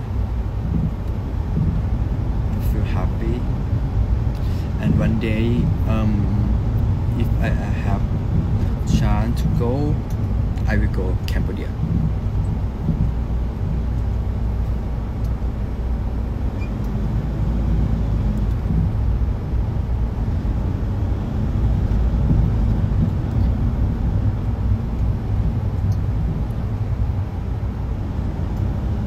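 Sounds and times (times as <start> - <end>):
bus engine rumble: 0.0 - 29.0.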